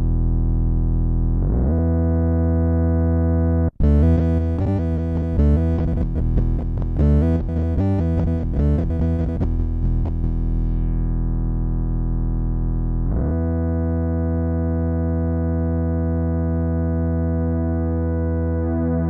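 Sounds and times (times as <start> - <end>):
synth-like electric bass notes: 0.0 - 19.0.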